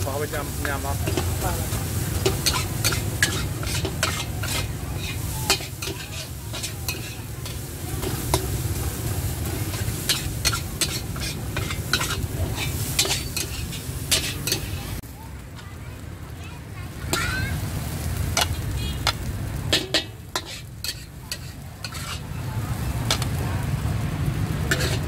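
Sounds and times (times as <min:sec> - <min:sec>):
food sizzling: 0:00.0 - 0:25.0
metal spatula scraping a wok: 0:00.4 - 0:15.0, 0:17.1 - 0:23.4, 0:24.6 - 0:25.0.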